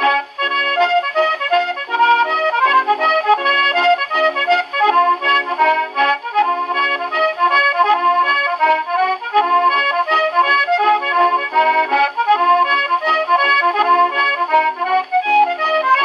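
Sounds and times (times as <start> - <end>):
button accordion playing: 0.0 - 16.0
piano accompaniment: 0.0 - 16.0.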